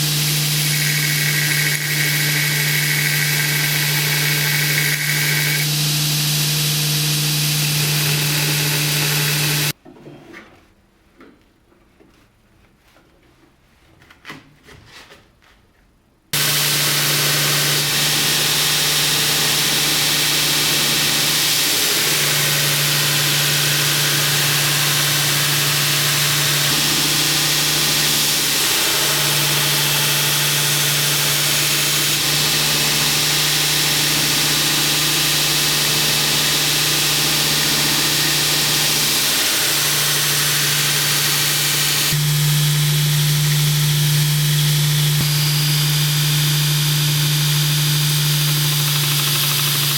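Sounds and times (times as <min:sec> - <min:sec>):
electric grinder grinding steel: 0:00.0 - 0:09.8, 0:16.4 - 0:49.9.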